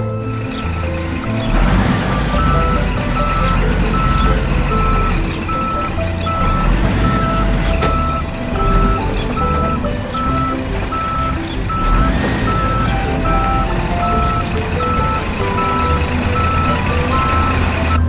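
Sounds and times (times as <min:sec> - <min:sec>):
background music: 0:00.0 - 0:18.0
reversing alarm beeping: 0:00.0 - 0:18.0.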